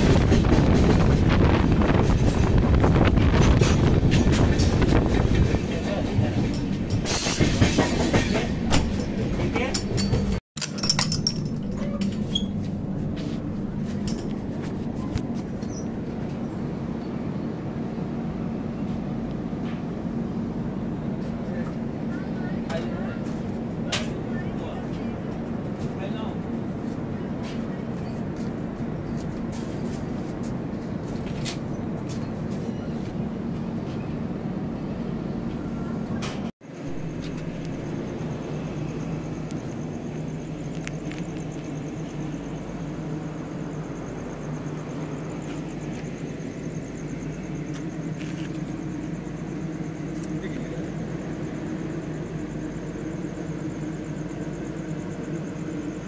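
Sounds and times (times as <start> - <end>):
train coach hum and rumble: 0.0 - 56.0.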